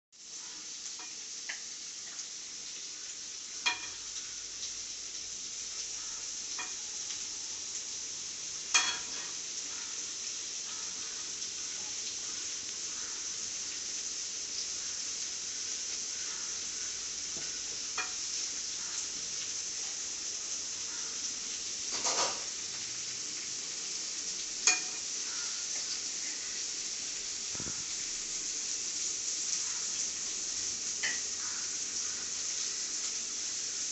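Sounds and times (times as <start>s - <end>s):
cabbage sizzling in a pan: 0.1s - 33.9s.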